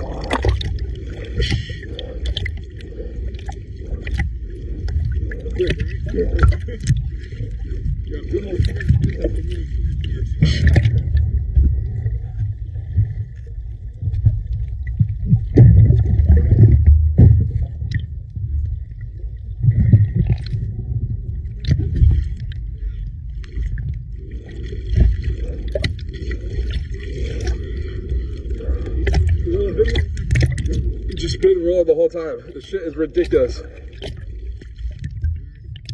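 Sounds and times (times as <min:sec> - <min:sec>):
muffled water sloshing: 0:00.0 - 0:35.9.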